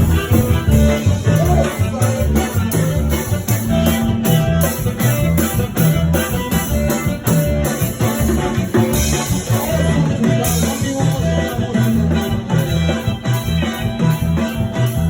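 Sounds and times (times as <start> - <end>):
bass line: 0.0 - 15.0
latin band playing: 0.0 - 15.0
rhythmic percussion beat: 0.0 - 15.0.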